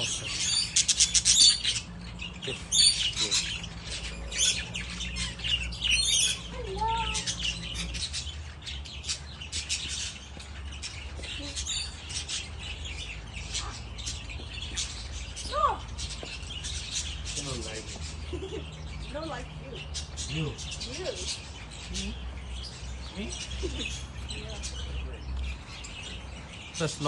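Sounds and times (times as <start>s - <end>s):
birds chirping and squawking: 0.0s - 27.0s.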